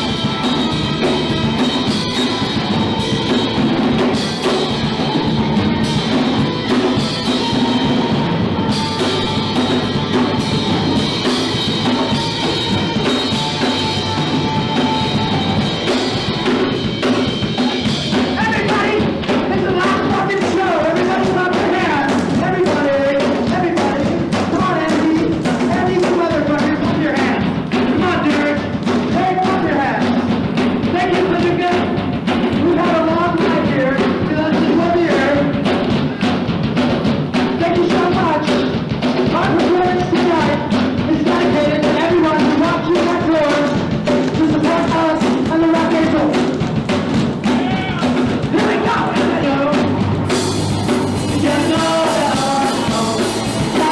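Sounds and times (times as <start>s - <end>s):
live punk rock band: 0.0s - 53.9s
rock vocals: 0.0s - 53.9s.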